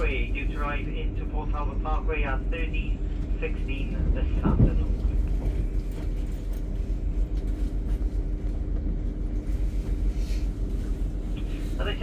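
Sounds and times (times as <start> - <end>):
constant hum: 0.0 - 12.0
train rumble inside carriage: 0.0 - 12.0.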